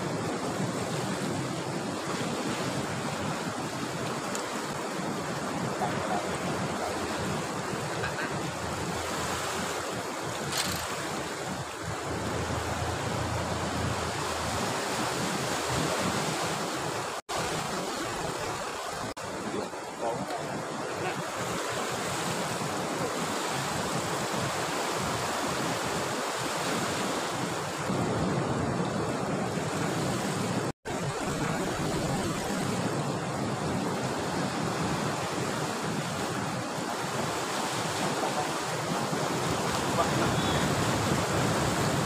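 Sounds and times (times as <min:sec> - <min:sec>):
surf breaking on shore: 0:00.0 - 0:42.0
wind buffeting microphone: 0:00.0 - 0:42.0.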